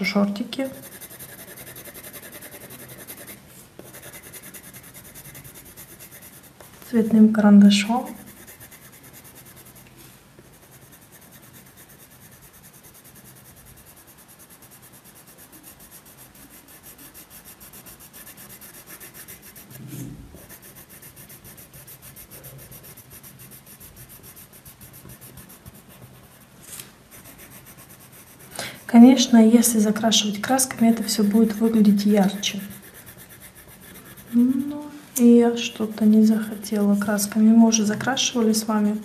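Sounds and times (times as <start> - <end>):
pencil scratching on paper: 0.0 - 39.0.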